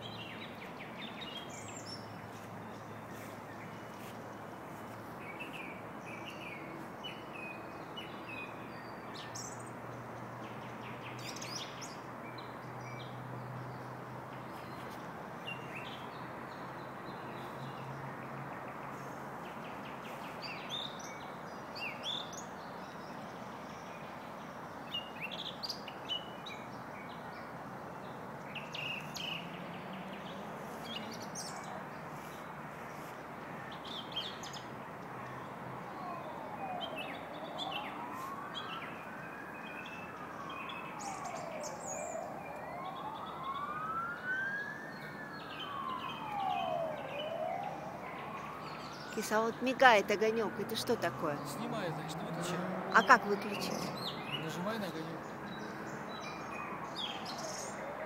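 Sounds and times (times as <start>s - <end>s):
small birds chirping: 0.0s - 18.0s, 28.1s - 58.0s.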